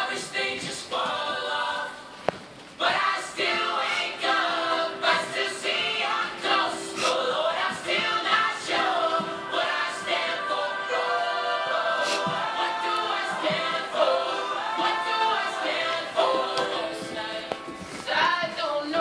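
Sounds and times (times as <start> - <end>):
choir singing: 0.0 - 2.1, 2.8 - 17.6.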